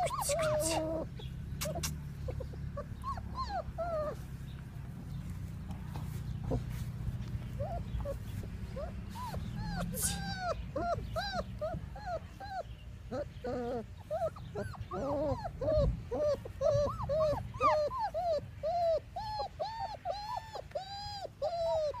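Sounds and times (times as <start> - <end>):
puppies whimpering: 0.0 - 5.4, 6.0 - 22.0.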